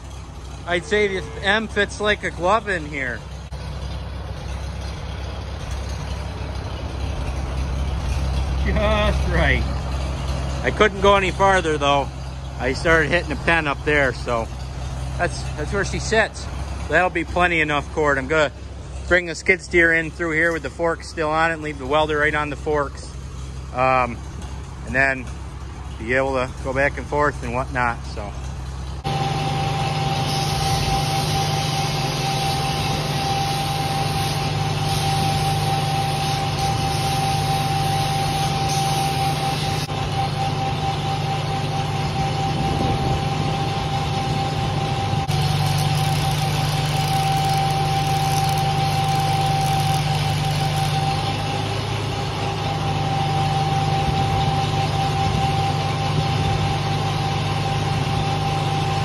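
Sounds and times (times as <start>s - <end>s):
high whine: 0.0s - 20.8s, 29.0s - 55.7s
tractor engine running: 0.0s - 59.0s.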